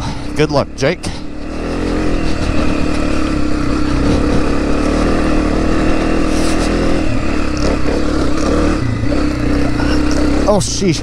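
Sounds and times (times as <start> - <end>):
dirt bike engine climbing: 0.0 - 11.0.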